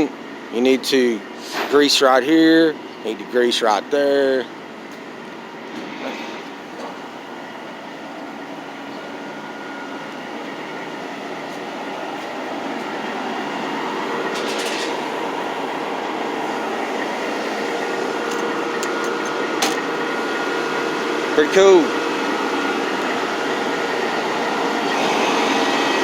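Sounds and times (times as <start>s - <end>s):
machinery noise: 0.0s - 26.0s.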